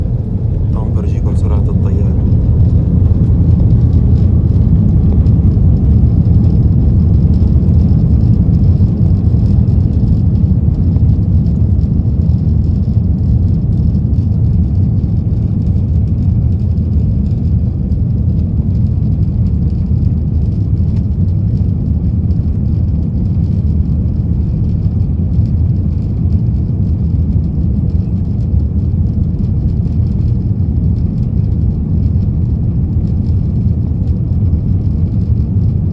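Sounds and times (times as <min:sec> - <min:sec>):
vehicle rumble in motion: 0:00.0 - 0:35.9.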